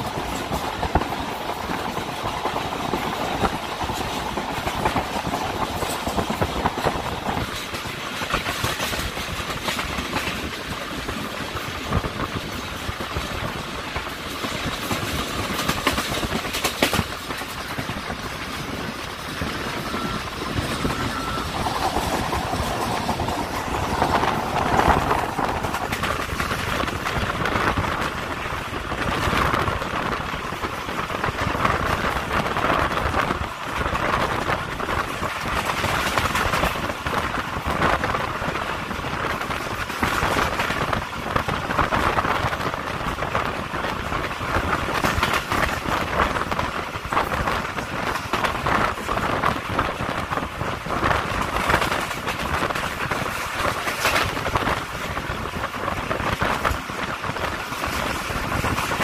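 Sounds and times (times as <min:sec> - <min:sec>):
train wheels rushing on rails: 0:00.0 - 0:59.0
wind: 0:00.0 - 0:59.0.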